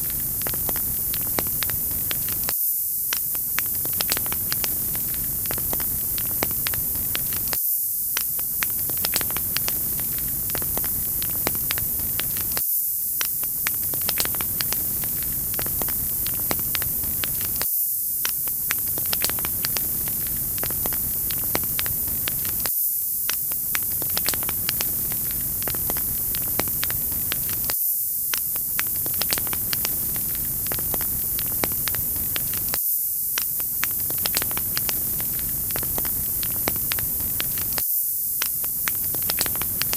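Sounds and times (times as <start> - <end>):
wood fire crackling: 0.0 - 2.5, 3.1 - 7.6, 8.2 - 12.6, 13.2 - 17.6, 18.2 - 22.7, 23.3 - 32.8, 33.4 - 37.8, 38.4 - 39.9.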